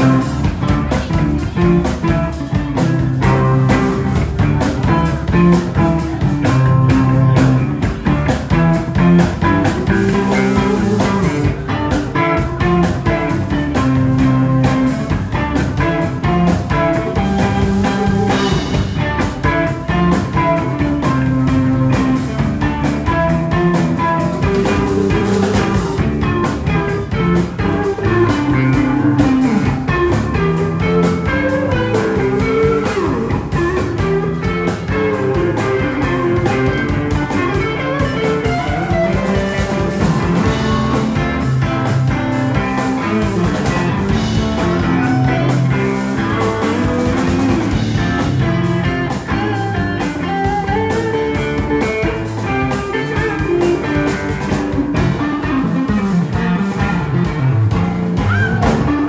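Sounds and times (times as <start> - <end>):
bass guitar: 0.0 - 59.0
bluesy electric guitar lead: 0.0 - 59.0
drum kit: 0.0 - 59.0.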